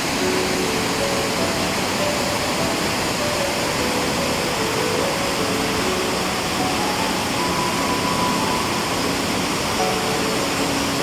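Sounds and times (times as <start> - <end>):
soft background music: 0.0 - 11.0
waterfall rushing: 0.0 - 11.0.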